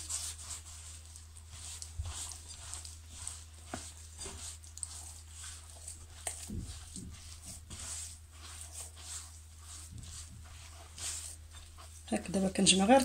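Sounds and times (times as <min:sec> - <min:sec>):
hand squishing dough in a bowl: 0:00.0 - 0:13.0.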